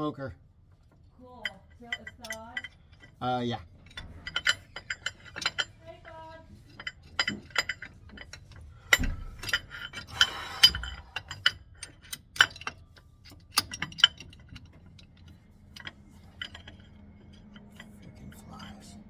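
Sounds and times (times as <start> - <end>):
metal parts clinking: 1.4 - 19.0.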